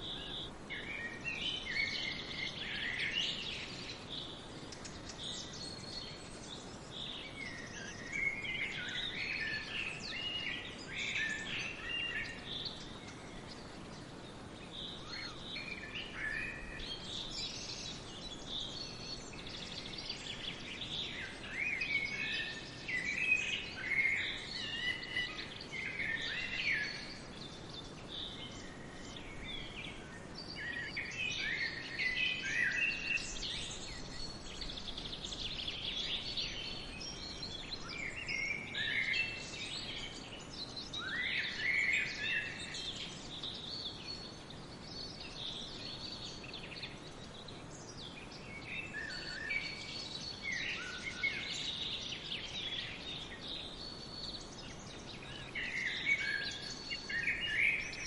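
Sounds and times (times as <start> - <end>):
soft steady hiss: 0.0 - 58.0
songbirds chirping and warbling: 0.0 - 58.0.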